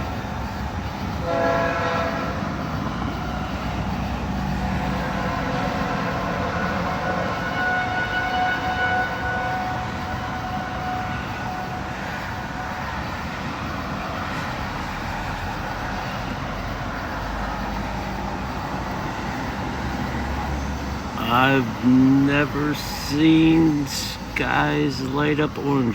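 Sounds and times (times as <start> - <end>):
rushing background noise: 0.0 - 25.9
tornado warning siren: 0.0 - 25.9.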